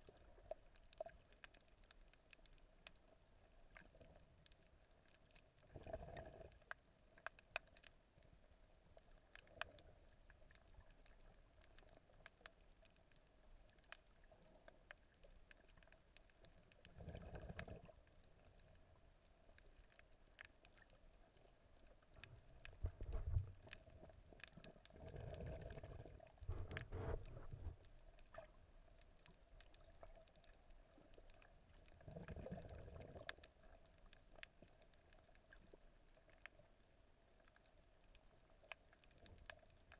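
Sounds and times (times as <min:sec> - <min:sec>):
muffled underwater water movement: 0:00.0 - 0:39.9.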